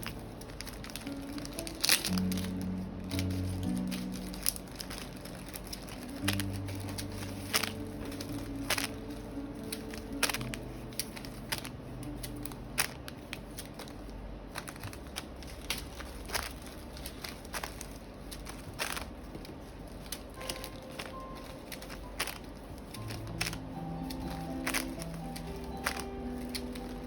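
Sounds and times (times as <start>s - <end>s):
packaging clicking and crinkling: 0.0s - 27.0s.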